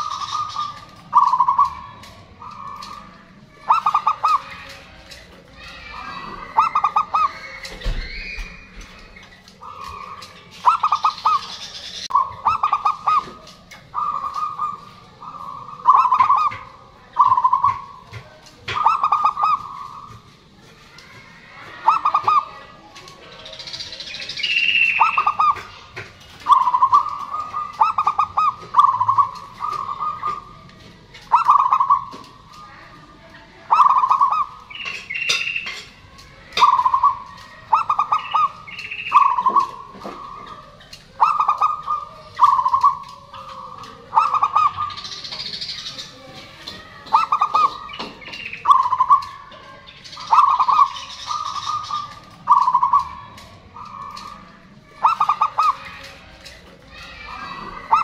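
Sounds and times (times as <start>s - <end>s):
dove cooing: 0.0s - 20.4s, 21.0s - 58.0s.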